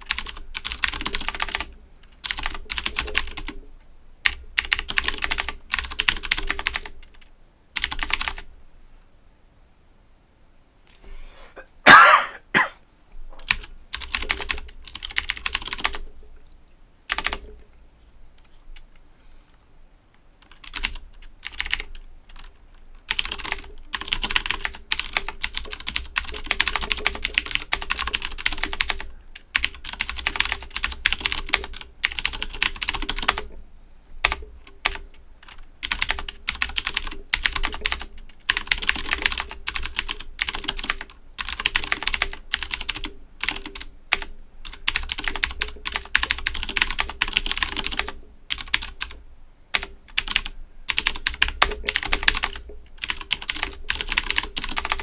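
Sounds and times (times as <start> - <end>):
clicky mechanical keyboard typing: 0.0 - 8.5, 13.4 - 16.1, 17.1 - 17.6, 20.4 - 33.6, 34.2 - 55.0.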